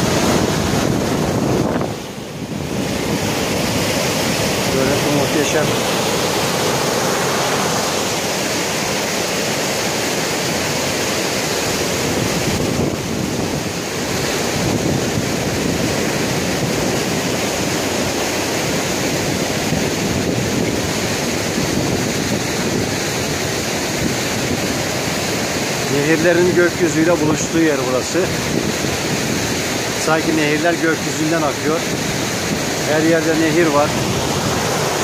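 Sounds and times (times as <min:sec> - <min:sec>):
river rapids rushing over boulders: 0:00.0 - 0:35.0.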